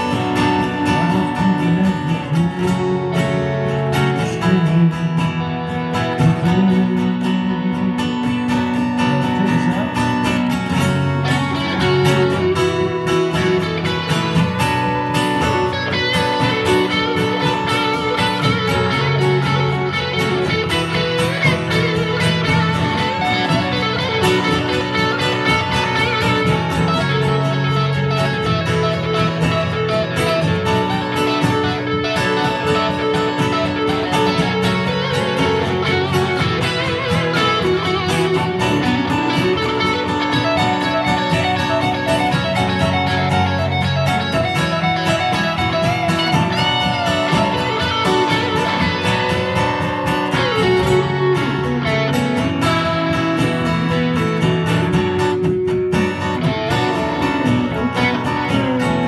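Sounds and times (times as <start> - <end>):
acoustic guitar: 0.0 - 59.0
electric guitar: 0.0 - 59.0.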